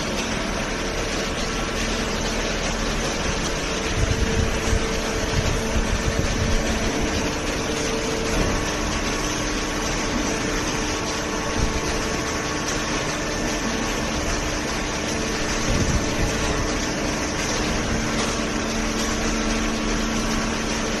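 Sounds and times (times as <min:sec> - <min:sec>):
hydraulic pump whirring: 0:00.0 - 0:21.0.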